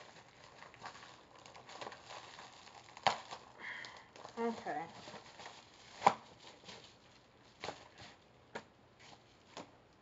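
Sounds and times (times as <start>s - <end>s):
envelope being opened by hand: 0.0s - 8.2s.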